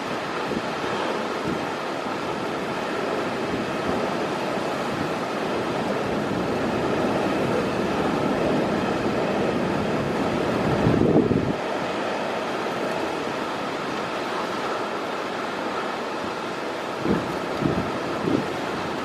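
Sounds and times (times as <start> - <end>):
surf: 0.0 - 19.0
wind buffeting microphone: 0.0 - 19.0.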